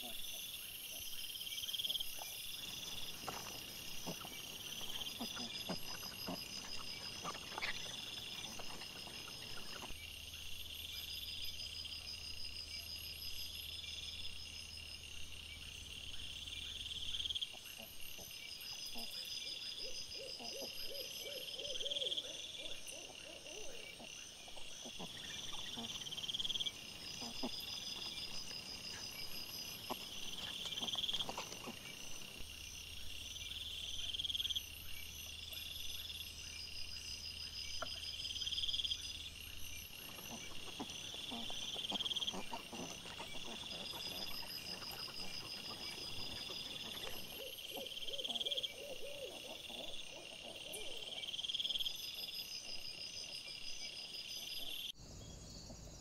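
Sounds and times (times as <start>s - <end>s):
insects chirping in trills: 0.0s - 56.0s.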